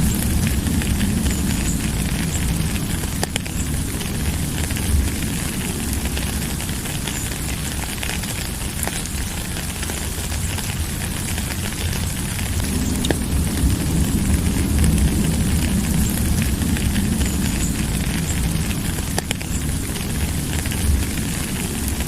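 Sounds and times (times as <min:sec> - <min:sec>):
raindrop taps: 0:00.0 - 0:22.0
steady rain falling: 0:00.0 - 0:22.0.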